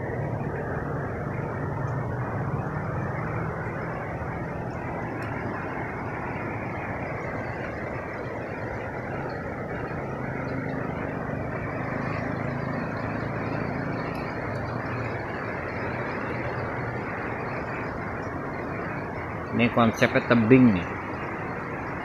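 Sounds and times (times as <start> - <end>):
waterfall and stream rushing: 0.0 - 22.0.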